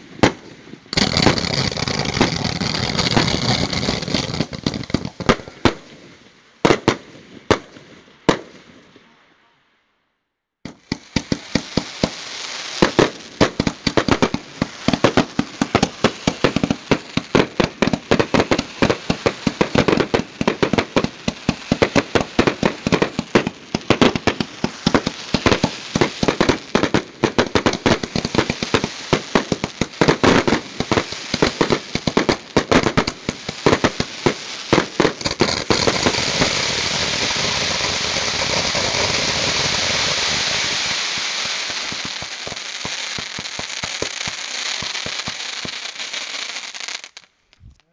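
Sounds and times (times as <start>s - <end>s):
fireworks bangs and pops: 0.0s - 9.0s, 10.6s - 47.9s
firework fountain crackling hiss: 0.9s - 5.9s, 10.7s - 47.3s.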